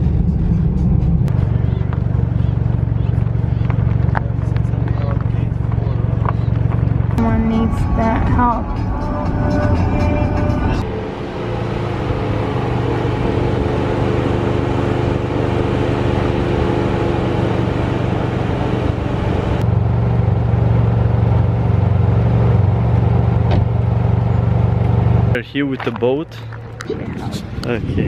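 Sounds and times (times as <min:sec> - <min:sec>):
car engine humming at low speed: 0:00.0 - 0:28.0.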